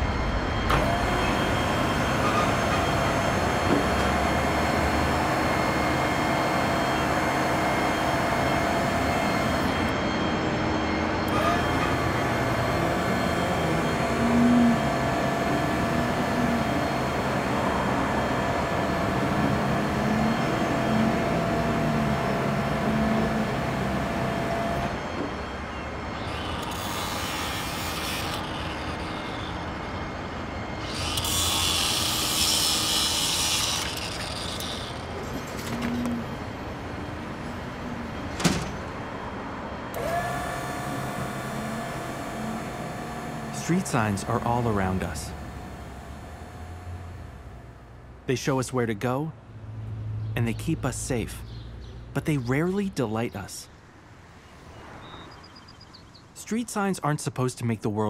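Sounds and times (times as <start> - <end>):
truck engine whine and hum: 0.0 - 48.4
street noise: 0.0 - 57.9.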